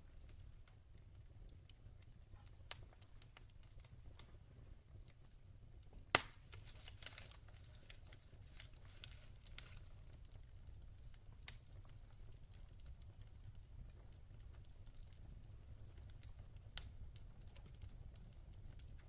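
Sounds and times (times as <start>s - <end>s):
fire popping: 0.0s - 19.0s
log fire crackling: 0.0s - 19.0s.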